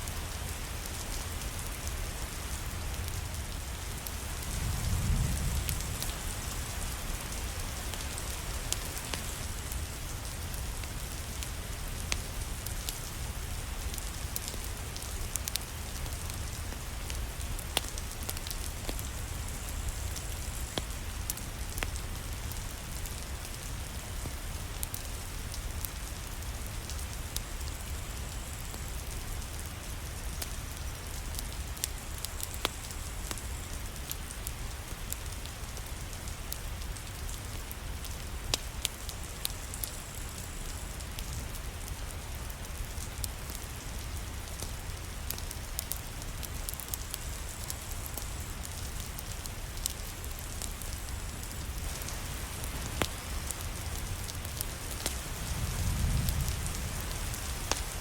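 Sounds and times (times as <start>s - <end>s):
rain falling: 0.0s - 58.0s
wood fire crackling: 0.0s - 58.0s.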